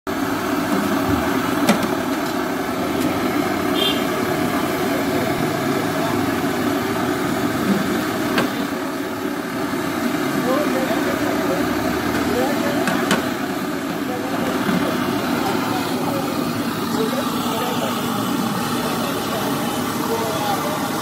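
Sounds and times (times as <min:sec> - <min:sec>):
mechanical hum: 0:00.1 - 0:21.0.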